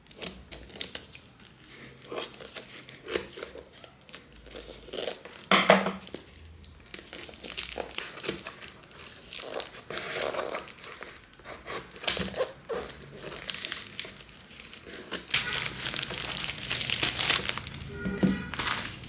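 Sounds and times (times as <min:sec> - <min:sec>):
packaging crinkling: 0:00.1 - 0:19.0.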